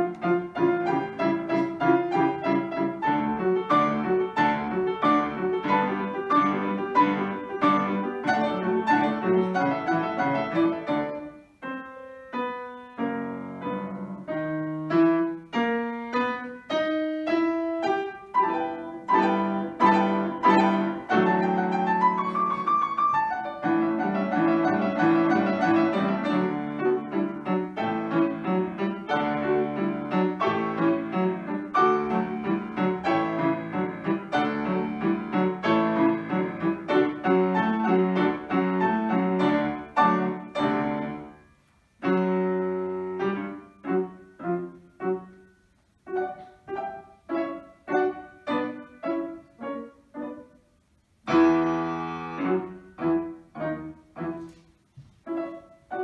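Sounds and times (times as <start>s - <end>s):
classical piano four-hands: 0.0s - 56.0s.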